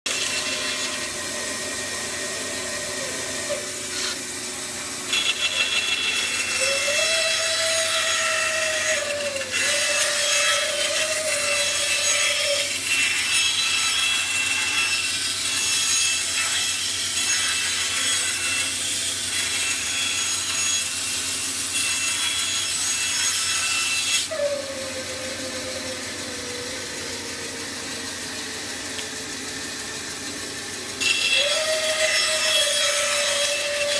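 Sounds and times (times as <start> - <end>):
bandsaw cutting wood: 0.1 - 33.9.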